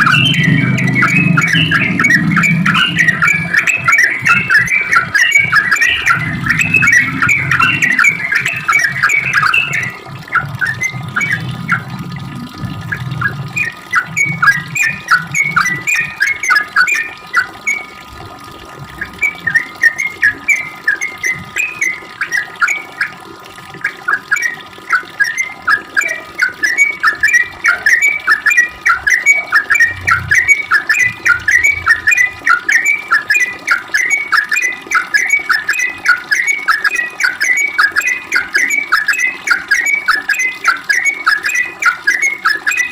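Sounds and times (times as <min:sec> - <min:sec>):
bird singing fast chattering notes: 0:00.0 - 0:18.1, 0:18.9 - 0:23.2, 0:23.8 - 0:42.9.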